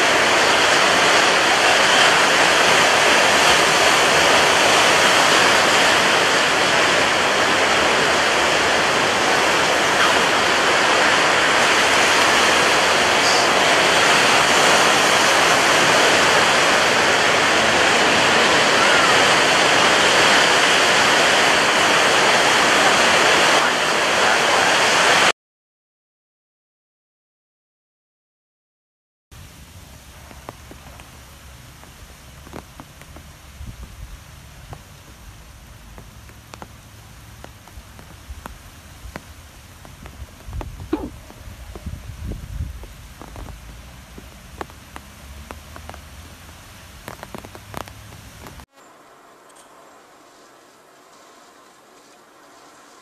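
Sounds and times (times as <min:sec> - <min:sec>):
heavy rain pouring: 0:00.0 - 0:25.3, 0:29.4 - 0:48.7.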